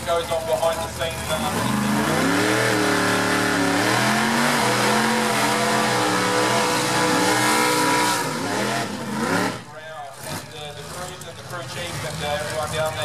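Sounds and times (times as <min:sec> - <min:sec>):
racing car engine revving: 0:00.6 - 0:13.0.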